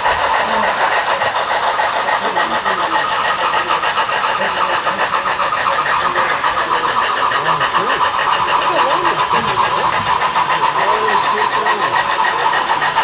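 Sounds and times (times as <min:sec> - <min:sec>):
faint voices: 0:00.0 - 0:13.0
model steam train chuffing: 0:00.0 - 0:13.0.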